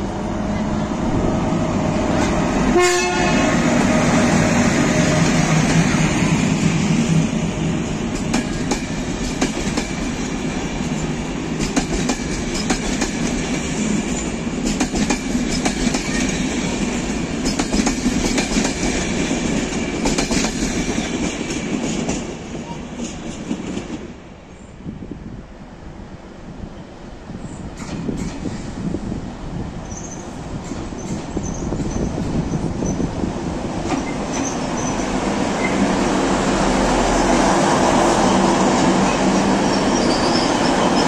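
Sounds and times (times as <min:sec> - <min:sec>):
electric locomotive humming: 0:00.0 - 0:41.0.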